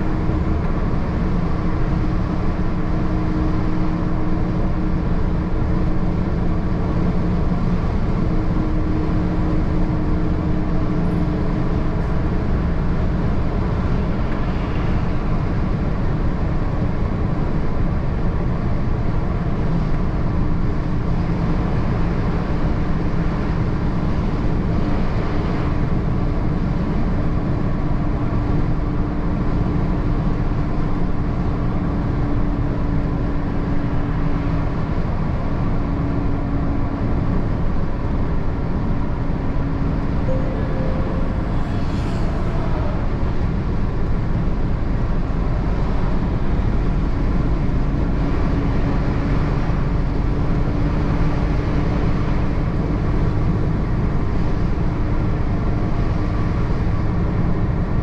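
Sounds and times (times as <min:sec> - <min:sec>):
lorry diesel engine driving: 0:00.0 - 0:58.0.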